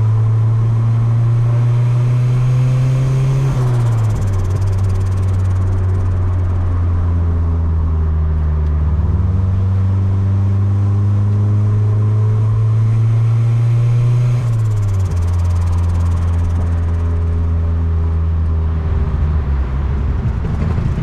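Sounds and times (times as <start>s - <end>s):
turbocharged car engine running: 0.0s - 19.0s.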